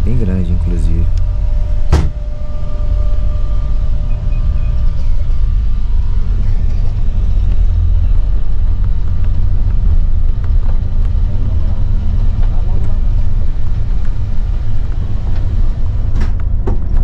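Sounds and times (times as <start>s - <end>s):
coach engine and road rumble: 0.0s - 17.0s.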